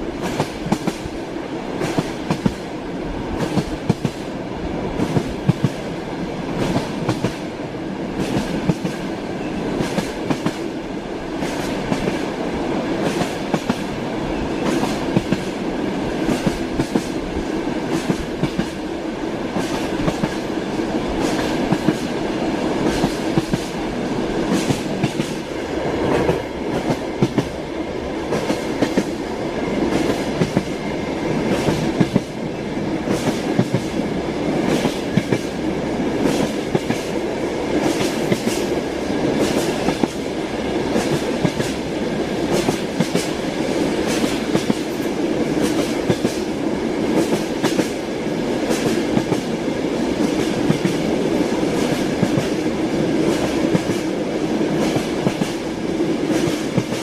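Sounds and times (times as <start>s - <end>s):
train wheels clattering on rails: 0.1s - 57.0s.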